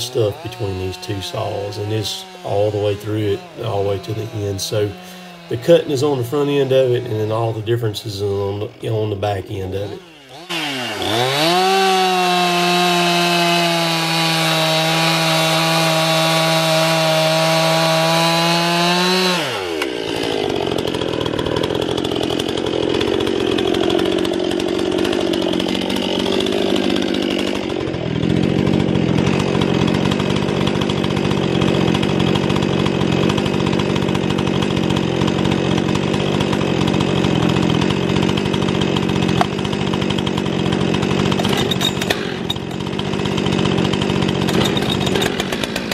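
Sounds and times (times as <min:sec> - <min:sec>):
chainsaw at full throttle: 0:00.0 - 0:45.9.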